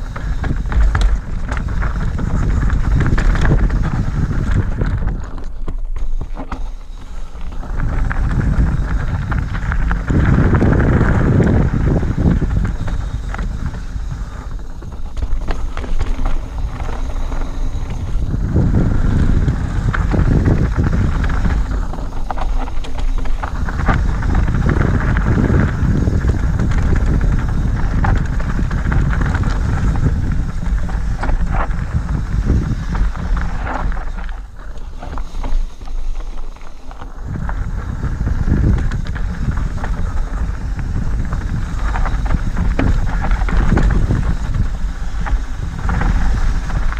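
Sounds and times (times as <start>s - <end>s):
bike rattling clicks and knocks: 0.0s - 46.9s
tyres rumbling on stones: 0.0s - 46.9s
wind buffeting microphone: 0.0s - 46.9s.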